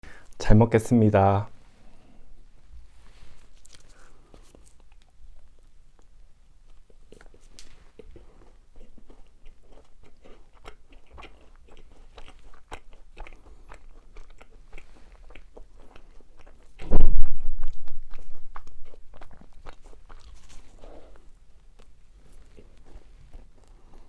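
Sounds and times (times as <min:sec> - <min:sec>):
crisp crunching and chewing: 0:03.4 - 0:24.0.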